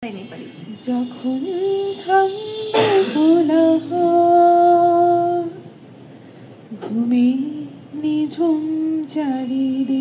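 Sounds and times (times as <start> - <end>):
woman singing wordless melody: 0.7 - 5.8, 6.7 - 10.0.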